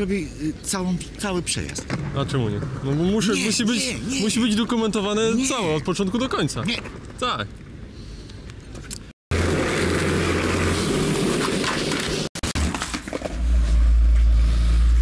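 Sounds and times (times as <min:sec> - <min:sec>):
skateboard wheels rolling on concrete: 0:01.0 - 0:07.8, 0:08.4 - 0:14.5.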